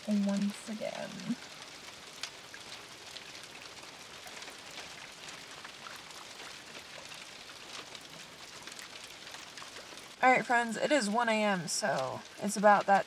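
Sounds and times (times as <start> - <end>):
rain on car roof: 0.0 - 13.0.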